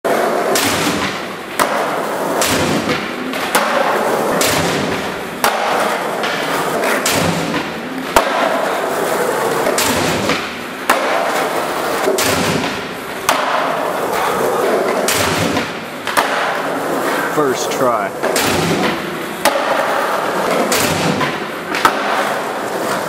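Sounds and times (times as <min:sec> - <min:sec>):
skateboard tail popping and landing: 0:00.1 - 0:17.2, 0:18.2 - 0:23.0
skateboard wheels rolling: 0:00.1 - 0:23.0.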